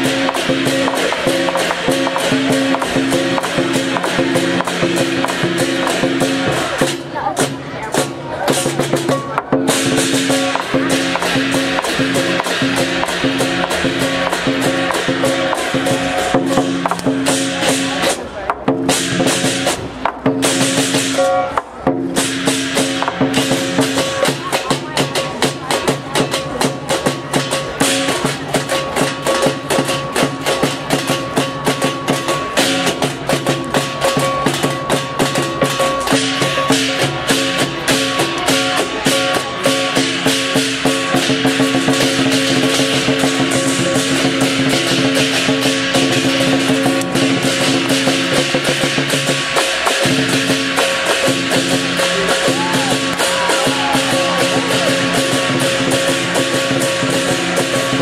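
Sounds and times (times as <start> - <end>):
clashing cymbals: 0.0 - 18.3, 18.9 - 58.0
large drum beating: 0.0 - 58.0.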